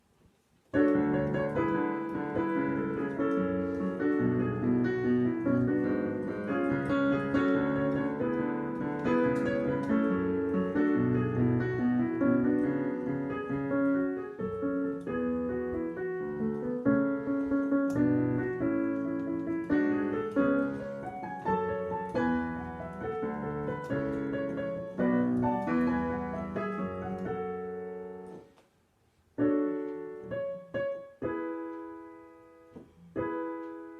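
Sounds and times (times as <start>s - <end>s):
piano music: 0.7s - 28.6s, 29.3s - 33.9s.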